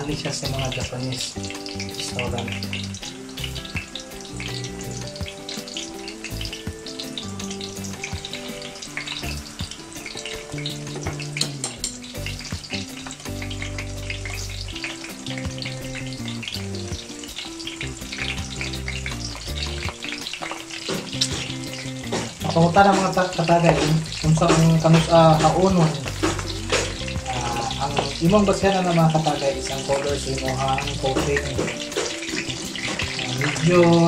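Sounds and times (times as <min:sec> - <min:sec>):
background music: 0:00.0 - 0:34.0
vegetables deep-frying in oil: 0:00.0 - 0:34.0.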